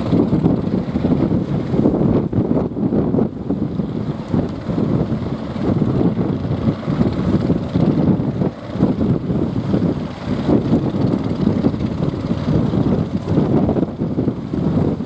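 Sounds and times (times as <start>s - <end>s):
small boat engines running: 0.0s - 15.0s
wind buffeting microphone: 0.0s - 15.0s.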